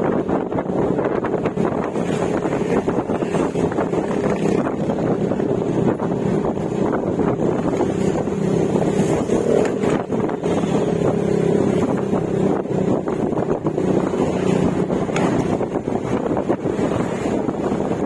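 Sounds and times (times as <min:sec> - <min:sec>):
scooter engine running: 0:00.0 - 0:18.0
wind noise on microphone: 0:00.0 - 0:18.0.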